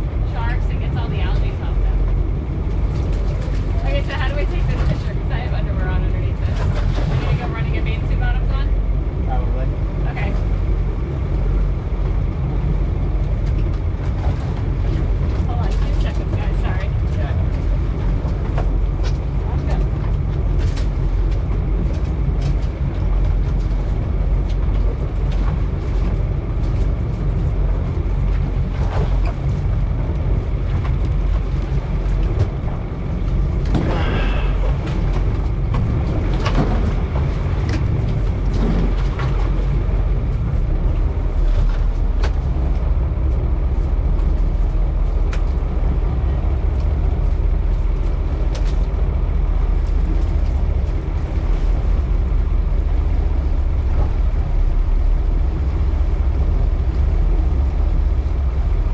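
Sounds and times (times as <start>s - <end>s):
boat engine rumble: 0.0s - 58.9s.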